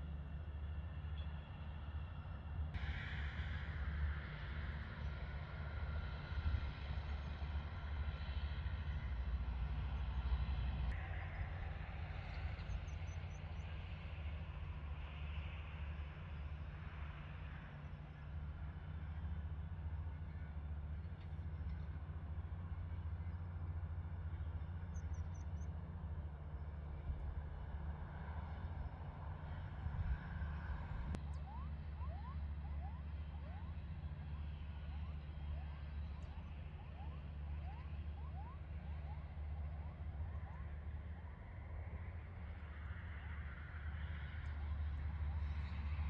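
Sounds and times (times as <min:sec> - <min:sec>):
distant jet engine rumble: 0:00.0 - 0:46.0.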